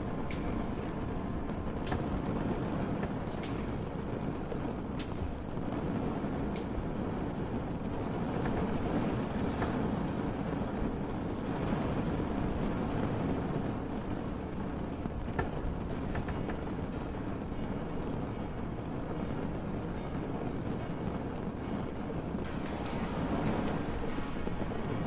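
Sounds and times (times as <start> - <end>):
boat engine and water rumble: 0.0 - 25.0.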